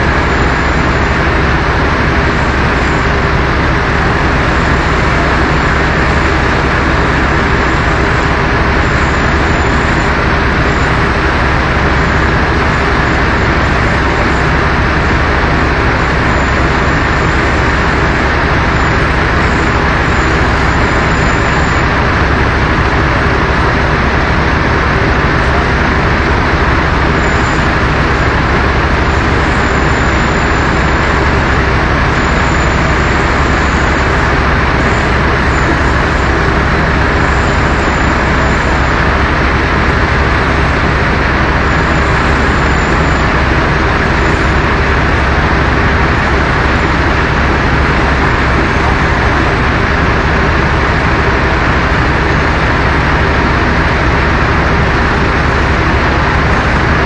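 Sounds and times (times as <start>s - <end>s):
running machinery noise: 0.0s - 57.0s.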